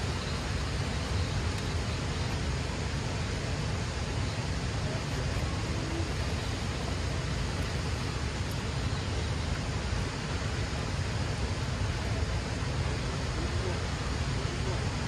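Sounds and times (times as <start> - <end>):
river water rushing: 0.0 - 15.0
wind: 0.0 - 15.0.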